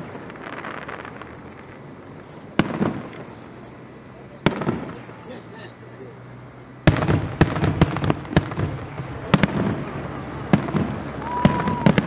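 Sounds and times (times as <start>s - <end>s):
fireworks bangs: 0.0s - 5.8s, 6.7s - 12.0s
fireworks crackling: 0.0s - 12.0s.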